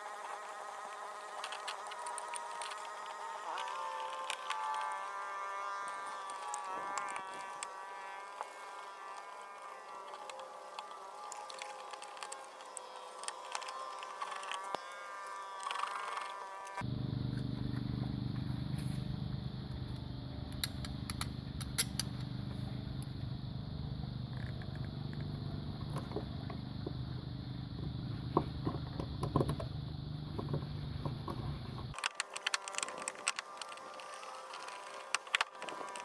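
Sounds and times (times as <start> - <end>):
motor humming: 0.0 - 36.0.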